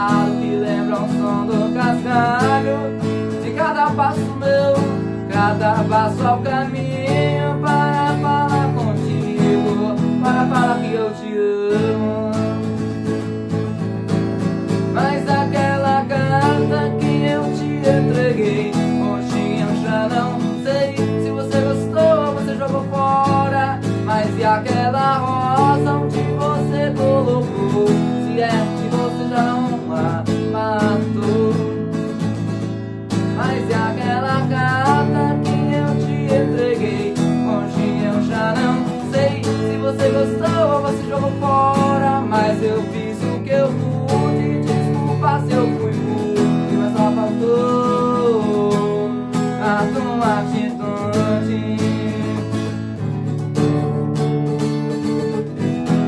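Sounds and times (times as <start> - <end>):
man singing: 0.0 - 54.0
acoustic guitar strumming: 0.0 - 56.0.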